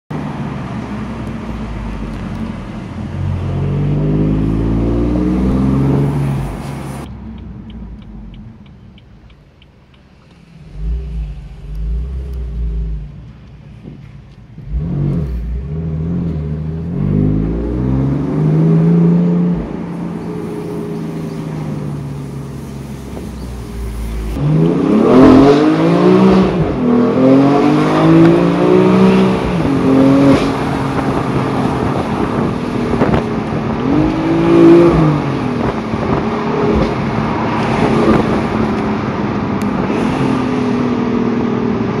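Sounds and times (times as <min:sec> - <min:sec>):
car engine accelerating through gears: 0:01.9 - 0:08.8, 0:14.6 - 0:42.0.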